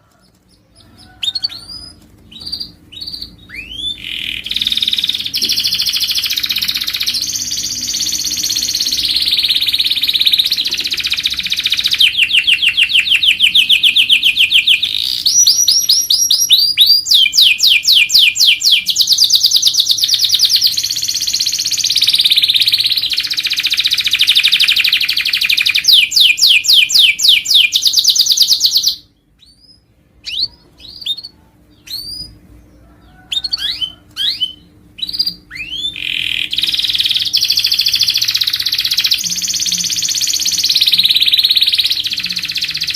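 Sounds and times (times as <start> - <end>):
canary chirps: 0.0 - 42.9
canary singing trills: 0.0 - 42.9.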